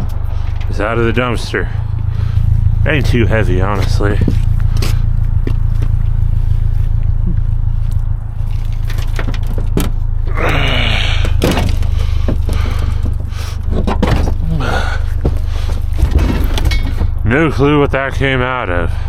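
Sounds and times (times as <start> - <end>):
engine block scraping and knocking: 0.0 - 18.3
steady low rumble: 0.0 - 19.0.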